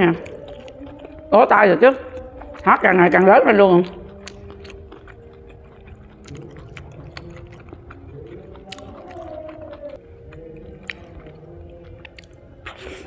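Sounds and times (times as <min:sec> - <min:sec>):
chewing mouth sounds: 0:00.0 - 0:13.0
faint karaoke singing: 0:00.0 - 0:13.0.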